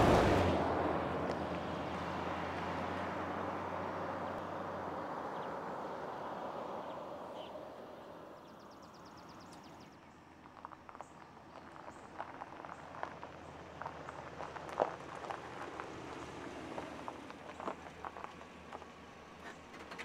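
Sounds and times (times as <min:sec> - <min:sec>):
pickup truck driving away: 0:00.0 - 0:09.4, 0:11.5 - 0:20.0.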